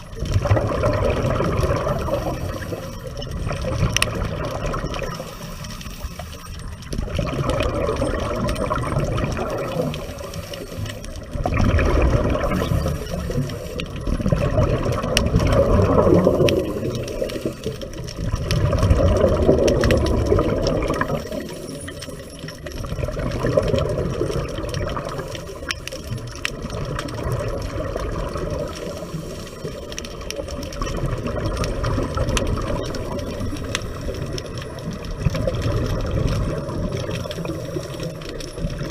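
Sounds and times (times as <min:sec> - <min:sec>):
exhaled bubbles rushing: 0:00.0 - 0:38.9
underwater scuba breathing: 0:00.0 - 0:38.9.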